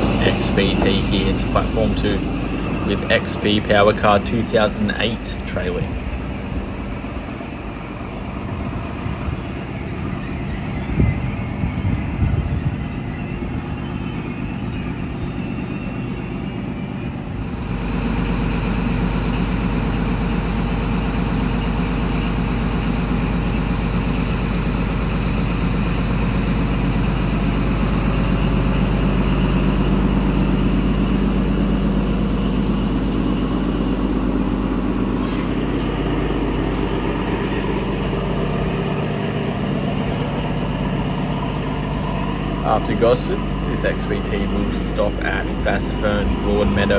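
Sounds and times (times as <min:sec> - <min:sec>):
diesel train engine hum: 0:00.0 - 0:46.9.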